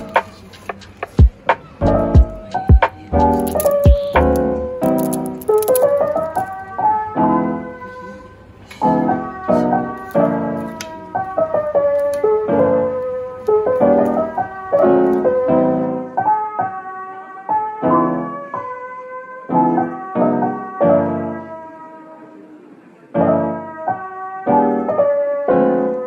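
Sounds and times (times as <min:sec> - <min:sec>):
gentle piano tune: 0:00.0 - 0:26.0.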